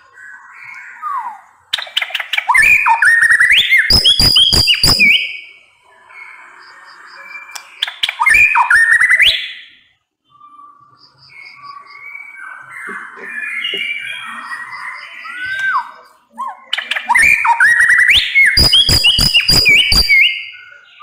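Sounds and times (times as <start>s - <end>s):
bird singing whistled notes: 0.0s - 21.0s.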